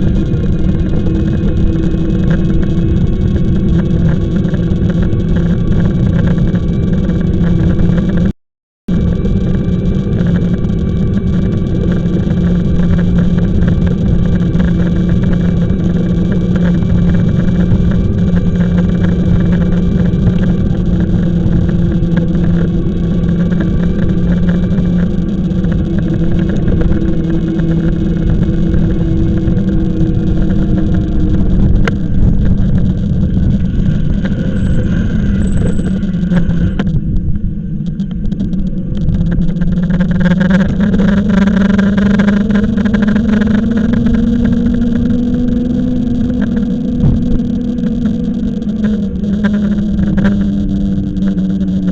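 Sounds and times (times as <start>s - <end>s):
wind rushing over microphone: 0.0s - 8.3s, 8.9s - 51.9s
steady low hum: 0.0s - 51.9s.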